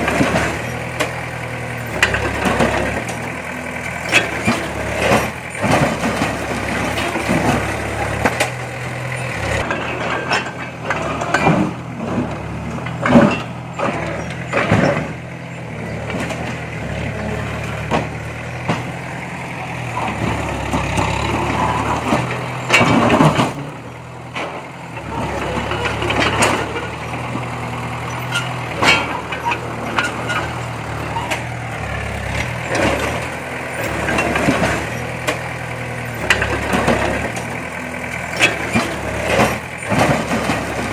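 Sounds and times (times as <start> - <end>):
diesel engine running: 0.0 - 40.9
sharp metal clanks and knocks: 0.0 - 40.9.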